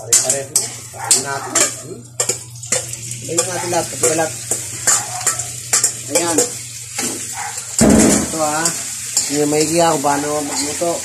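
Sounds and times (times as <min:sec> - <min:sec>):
meat sizzling in a pan: 0:00.0 - 0:11.0
metal spatula scraping a wok: 0:00.0 - 0:11.0.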